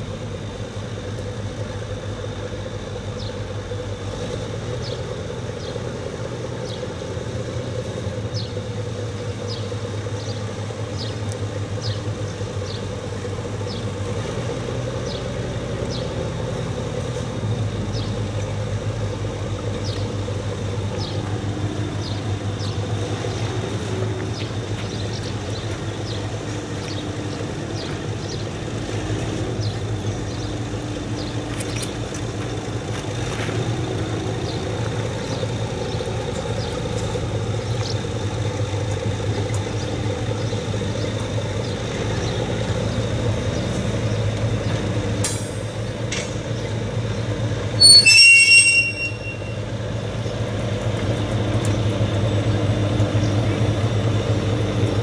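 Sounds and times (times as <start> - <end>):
diesel railcar engine drone: 0.0 - 55.0.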